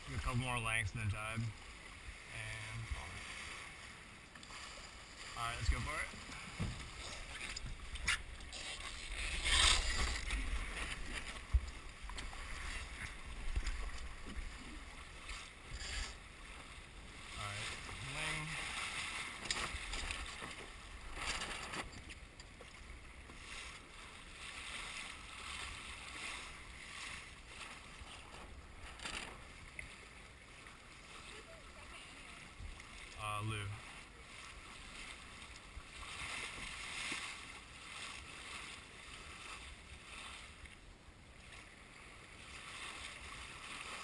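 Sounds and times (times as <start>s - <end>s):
water rushing along boat hull: 0.0s - 44.0s.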